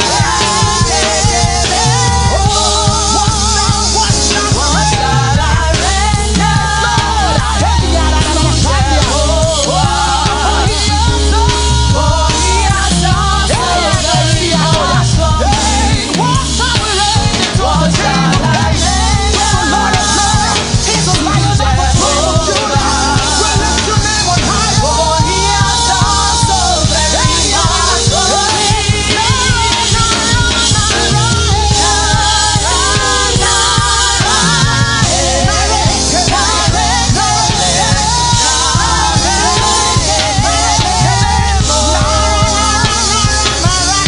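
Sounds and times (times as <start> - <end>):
fast drum beat: 0.0 - 44.0
gospel singing: 0.0 - 44.0
heavy bass: 0.0 - 44.0.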